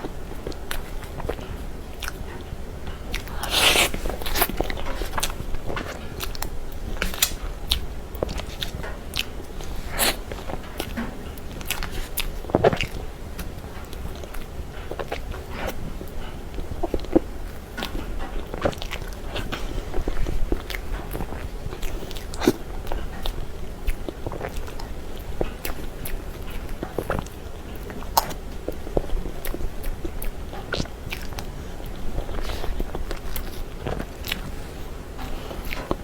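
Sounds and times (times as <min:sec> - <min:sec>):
wet chewing of cake: 0:00.0 - 0:36.0.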